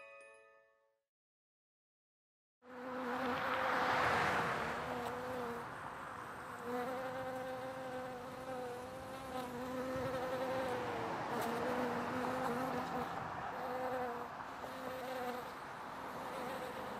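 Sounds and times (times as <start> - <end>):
bees buzzing: 2.7 - 5.7, 6.3 - 16.9.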